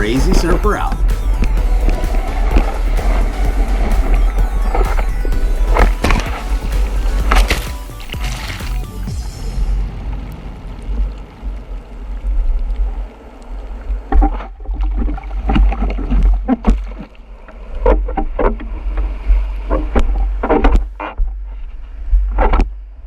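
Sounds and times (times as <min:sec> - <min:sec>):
ocean water splashing: 0:00.0 - 0:22.4
sharp splashes and knocks: 0:00.2 - 0:13.0, 0:14.1 - 0:21.0.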